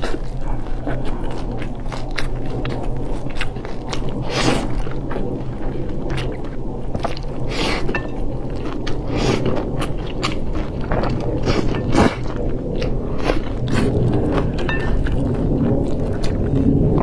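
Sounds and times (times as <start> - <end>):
person chewing and biting: 0.0 - 17.0
low rumble: 0.6 - 17.0.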